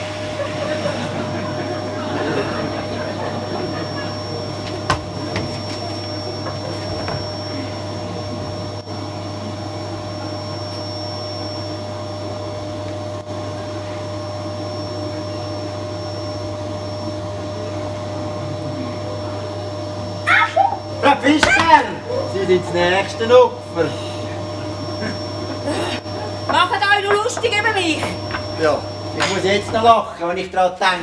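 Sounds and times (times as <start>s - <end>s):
vacuum cleaner whining: 0.0s - 31.0s.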